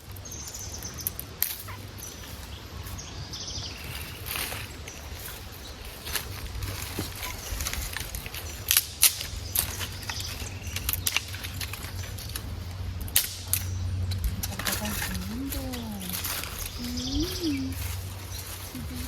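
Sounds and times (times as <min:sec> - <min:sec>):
dry brush snapping and crackling: 0:00.0 - 0:19.0
wind rumble on microphone: 0:00.0 - 0:19.0.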